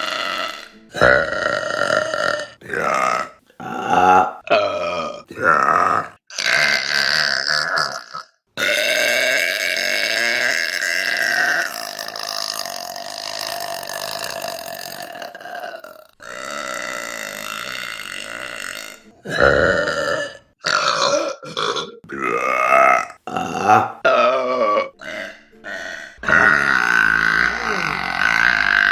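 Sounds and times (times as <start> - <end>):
woman burping: 0.0 - 28.9.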